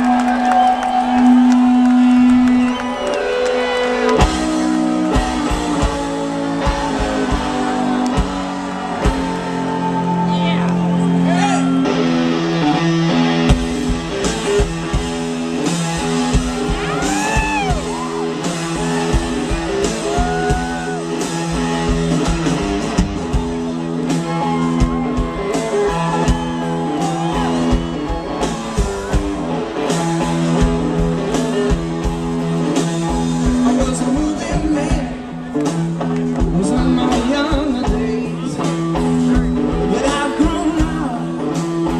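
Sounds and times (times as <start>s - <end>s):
distorted electric guitar riff: 1.0s - 41.9s.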